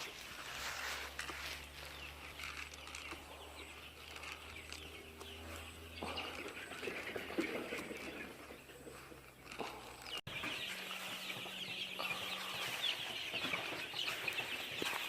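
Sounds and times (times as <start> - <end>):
chickens chirping and calling: 0.0 - 15.0.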